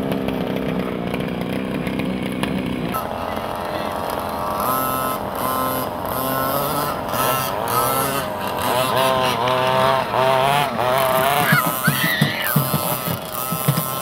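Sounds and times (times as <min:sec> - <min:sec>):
motorbike-like engine revving: 0:00.0 - 0:14.0.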